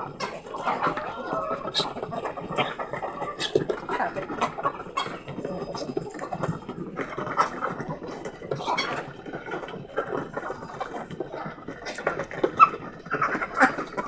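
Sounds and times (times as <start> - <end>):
chickens clucking: 0.0 - 14.0
chickens moving and pecking: 0.0 - 14.0.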